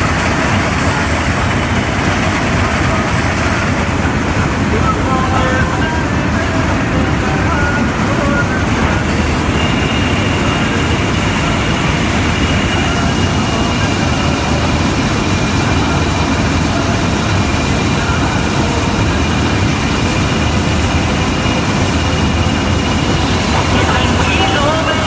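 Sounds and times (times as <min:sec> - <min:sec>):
combine harvester drone: 0:00.0 - 0:25.0.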